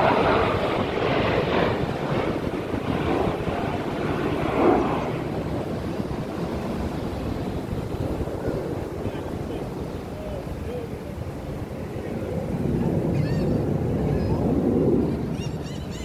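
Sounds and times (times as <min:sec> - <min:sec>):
aircraft flying over: 0:00.0 - 0:16.0.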